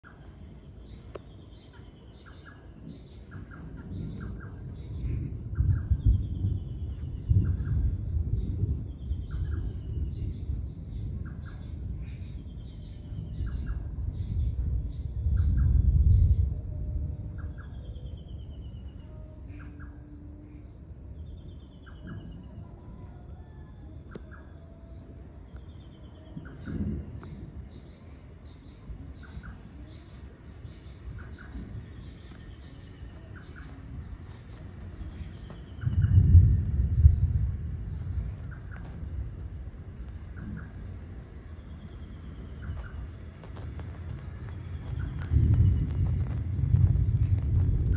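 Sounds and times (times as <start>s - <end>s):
night insects chorus: 0.0s - 47.9s
rolling thunder: 1.7s - 47.9s.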